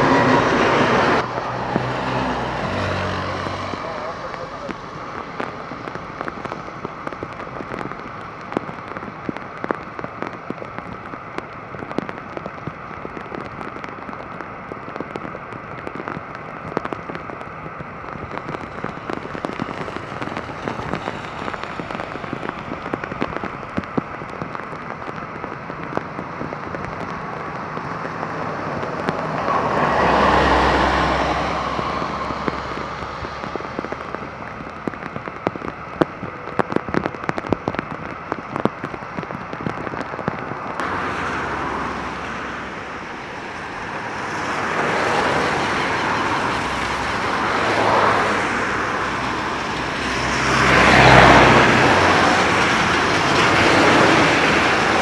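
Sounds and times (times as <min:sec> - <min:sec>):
raindrops hitting microphone: 0:00.0 - 0:55.0
rushing noise with low rumble: 0:00.0 - 0:55.0
torrential rain pouring: 0:00.0 - 0:55.0.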